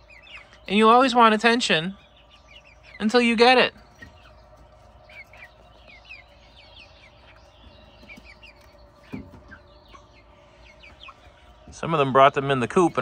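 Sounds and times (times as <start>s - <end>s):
chickens clucking softly: 0.0s - 13.0s.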